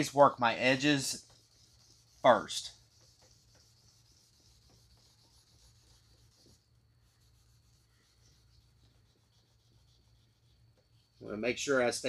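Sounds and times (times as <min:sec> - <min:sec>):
sandpaper rubbing on plastic: 0:00.0 - 0:12.0.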